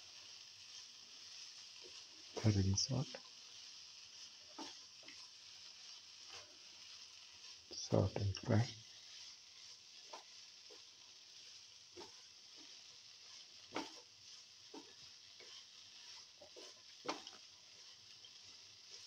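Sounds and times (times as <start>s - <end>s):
vegetables sizzling in oil: 0.0s - 19.0s
spatula scraping a pan: 0.2s - 2.5s, 3.1s - 19.0s.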